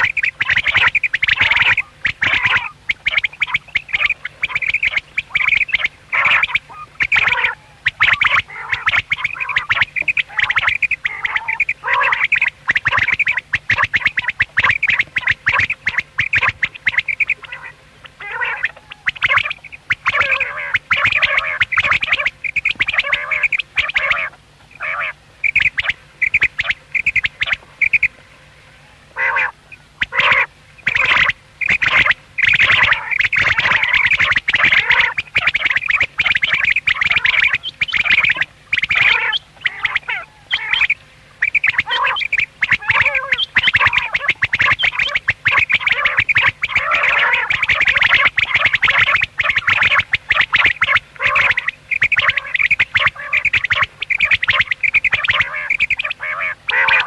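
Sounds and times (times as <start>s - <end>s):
quail calling: 0.0s - 57.0s.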